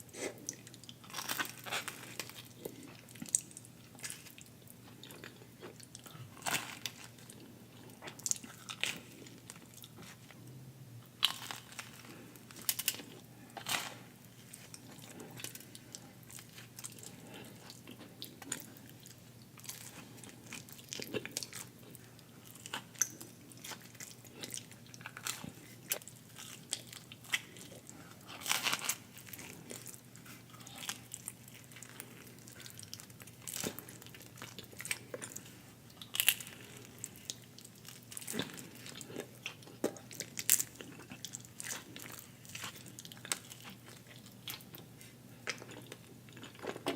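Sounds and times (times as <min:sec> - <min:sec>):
person crunching and chewing food: 0:00.0 - 0:46.9.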